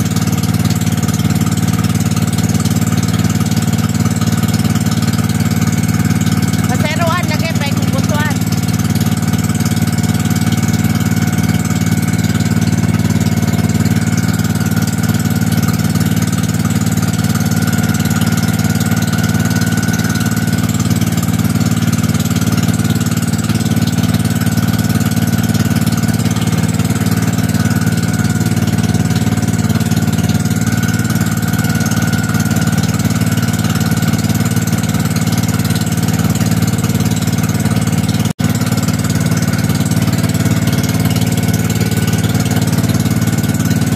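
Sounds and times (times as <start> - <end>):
boat engine running: 0.0 - 43.9
water wash: 0.0 - 43.9.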